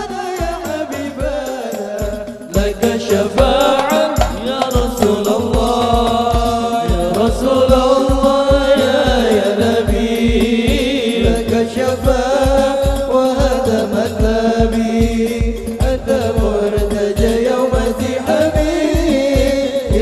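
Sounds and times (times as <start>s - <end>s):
frame drums beating: 0.0s - 20.0s
man singing into a microphone: 0.0s - 20.0s.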